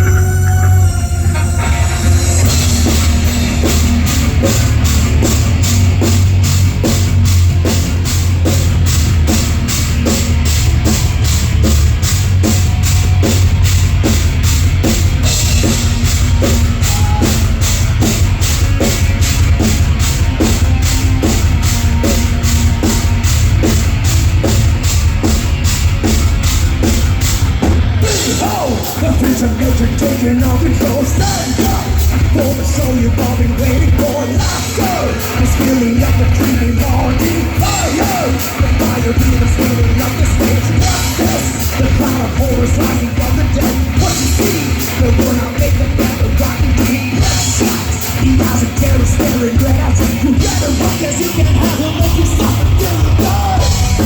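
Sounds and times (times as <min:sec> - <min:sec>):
fast drum beat: 0:00.0 - 0:54.0
heavy metal band playing: 0:00.0 - 0:54.0.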